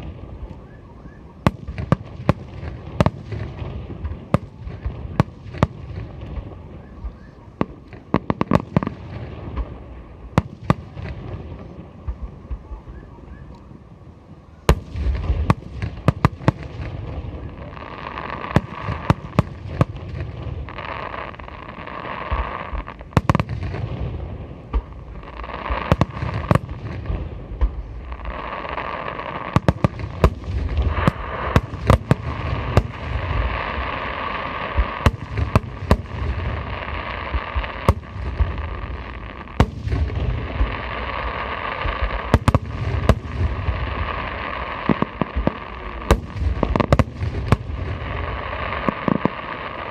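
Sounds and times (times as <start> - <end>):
fireworks bangs: 0.0 - 13.8, 14.6 - 49.9.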